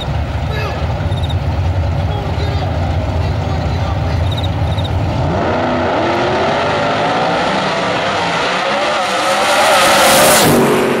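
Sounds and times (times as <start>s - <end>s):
drag car engines at full throttle: 0.0s - 11.0s.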